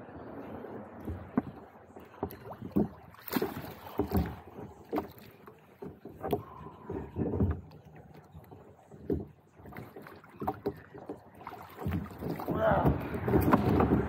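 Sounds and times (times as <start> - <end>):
water splashing against kayak hull: 0.2 - 14.0.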